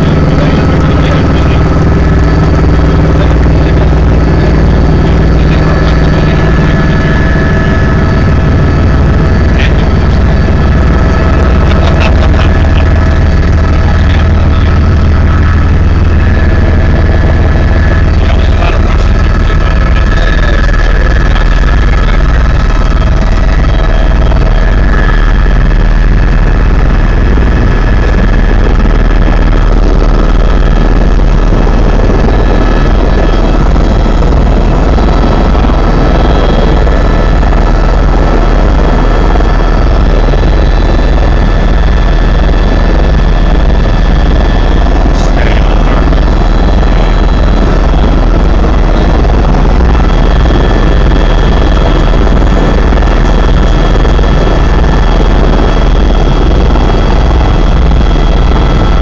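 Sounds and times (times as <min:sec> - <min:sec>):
helicopter rotor thrum: 0:00.0 - 0:59.0
high whining tones: 0:00.0 - 0:59.0.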